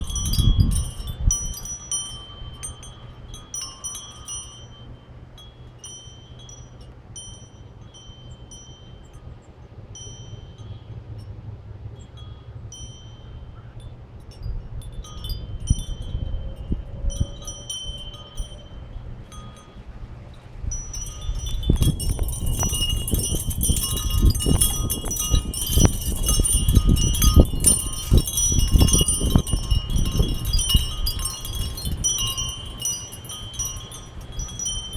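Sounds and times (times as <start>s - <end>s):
low wind rumble on microphone: 0.0s - 34.9s
wind chimes ringing: 0.0s - 34.9s.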